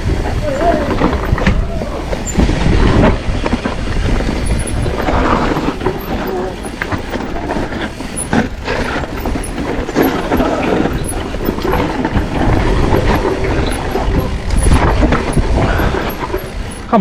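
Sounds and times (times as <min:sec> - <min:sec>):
bike frame and chain rattling: 0:00.0 - 0:17.0
bike tyres on dirt: 0:00.0 - 0:17.0
wind on microphone: 0:00.0 - 0:17.0.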